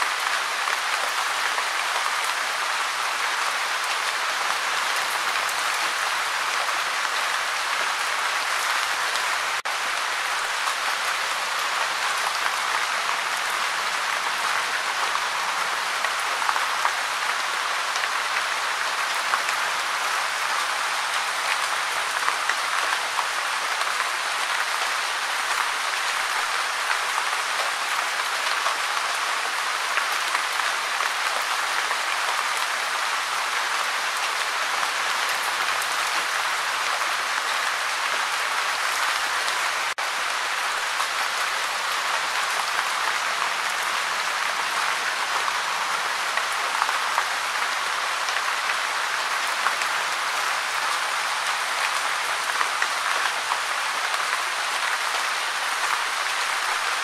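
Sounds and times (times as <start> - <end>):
gentle rain patter: 0.0 - 57.0.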